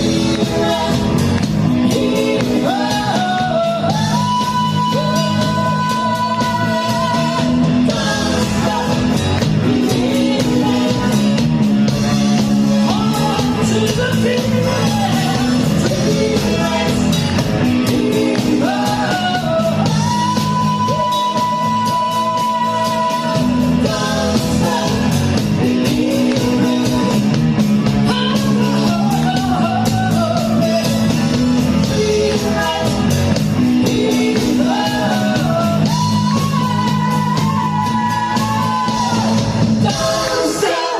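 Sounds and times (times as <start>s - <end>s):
bass line: 0.0s - 40.9s
person singing: 0.0s - 40.9s
rock band music: 0.0s - 40.9s.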